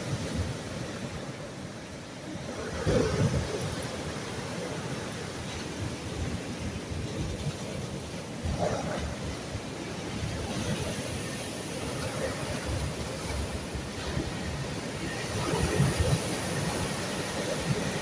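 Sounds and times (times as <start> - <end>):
sea waves washing onto shore: 0.0 - 18.0
wind gusting on microphone: 2.2 - 18.0.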